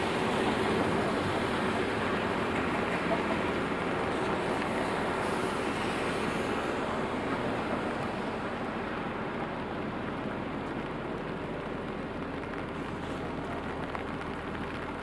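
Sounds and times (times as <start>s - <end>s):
steady rain hiss: 0.0s - 15.0s
traffic on wet streets: 0.0s - 15.0s.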